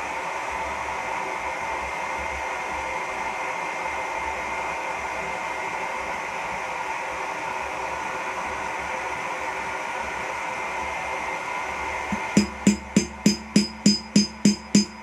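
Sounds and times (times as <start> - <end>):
faint high whine: 0.0 - 15.0
gas forge burner hissing: 0.0 - 15.0.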